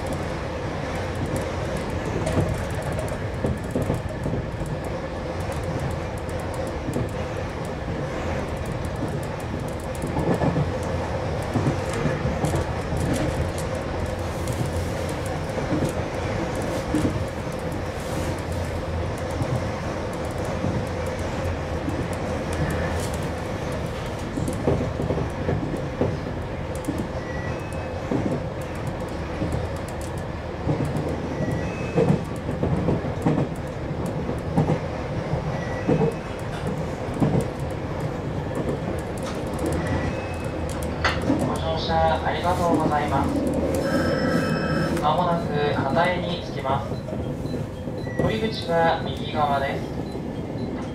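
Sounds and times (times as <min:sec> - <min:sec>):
electric train rumbling: 0:00.0 - 0:50.9.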